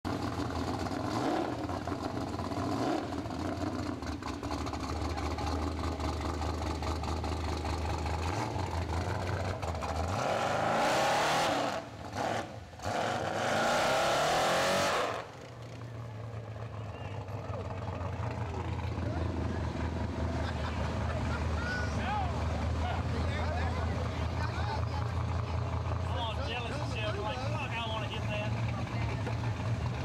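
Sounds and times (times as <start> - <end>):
truck engine rumbling and revving: 0.0 - 30.0
tires spinning in mud: 0.1 - 30.0.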